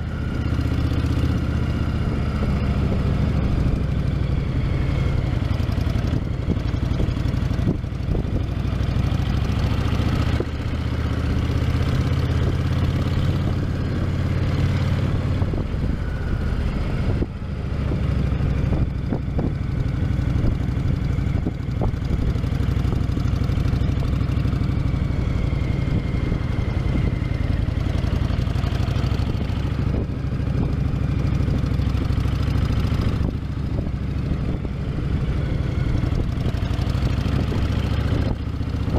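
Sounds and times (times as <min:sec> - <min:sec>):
motorcycle engine idling: 0:00.0 - 0:14.3, 0:15.1 - 0:38.9.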